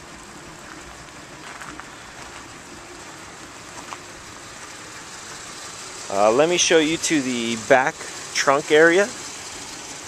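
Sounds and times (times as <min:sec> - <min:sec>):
car engine idling quietly: 0:00.0 - 0:10.0.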